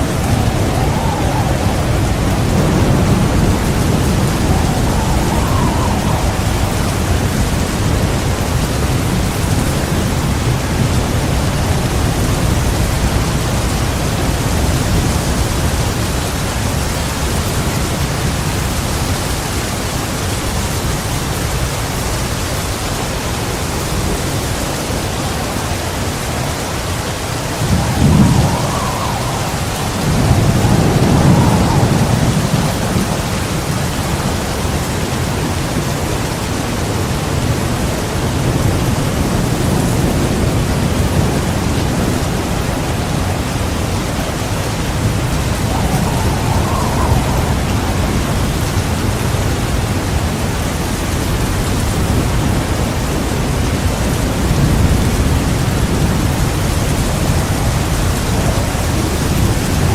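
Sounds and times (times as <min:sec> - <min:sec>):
heavy rain: 0:00.0 - 0:59.9
rolling thunder: 0:00.0 - 0:59.9.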